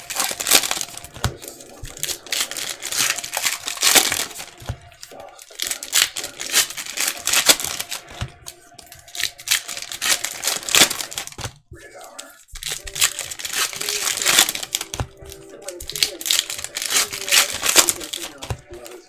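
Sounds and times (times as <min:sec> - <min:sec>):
cards sliding and flipping: 0:00.0 - 0:19.0
wrappers crinkling and tearing: 0:00.0 - 0:19.0.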